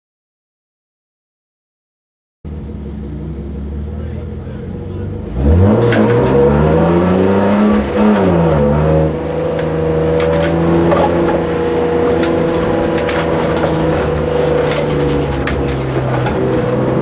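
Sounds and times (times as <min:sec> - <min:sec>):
car engine revving: 0:02.5 - 0:17.0.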